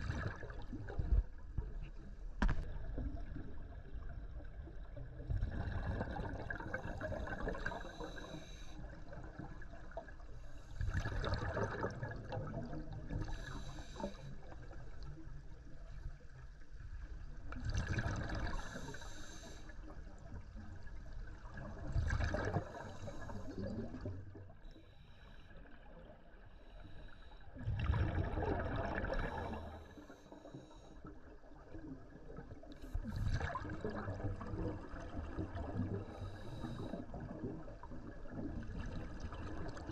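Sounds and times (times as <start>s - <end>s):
exhaled bubbles gurgling underwater: 0.0s - 39.9s
quiet water noise: 0.0s - 39.9s.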